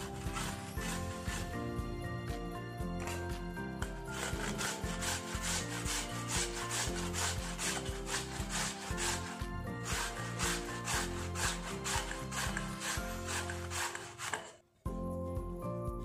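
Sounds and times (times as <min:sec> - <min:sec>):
potato grated on metal grater: 0:00.0 - 0:01.9, 0:03.0 - 0:14.6.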